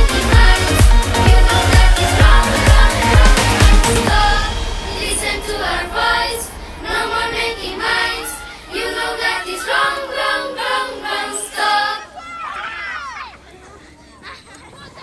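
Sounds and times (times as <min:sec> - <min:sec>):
children's choir singing: 0:00.0 - 0:12.2.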